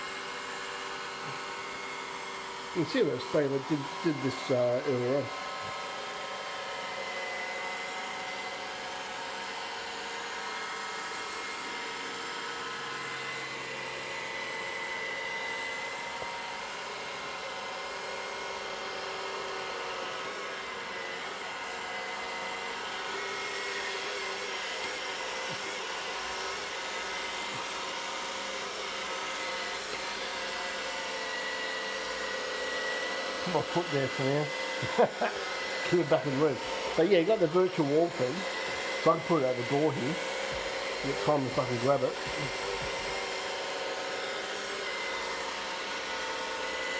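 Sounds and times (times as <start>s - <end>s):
robot vacuum cleaner running: 0.0s - 46.9s.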